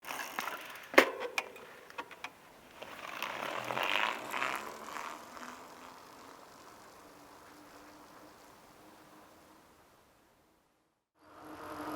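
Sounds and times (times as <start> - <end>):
bicycle wheel whirring and ticking: 0.0 - 10.3.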